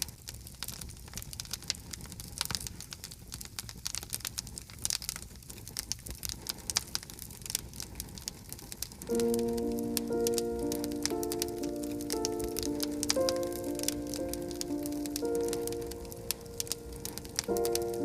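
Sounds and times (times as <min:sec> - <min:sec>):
campfire crackles and pops: 0:00.0 - 0:18.0
low rumble of flames: 0:00.0 - 0:18.0.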